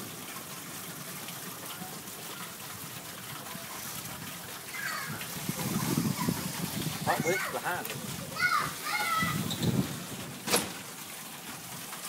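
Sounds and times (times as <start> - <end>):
heavy rain and hail falling: 0.0 - 12.0.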